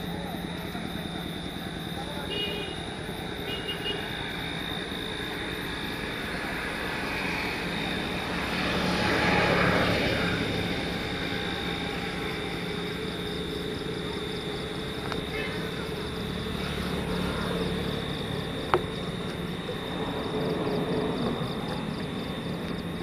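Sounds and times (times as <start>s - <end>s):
outdoor background noise: 0.0s - 23.0s
passing vehicle: 0.0s - 23.0s.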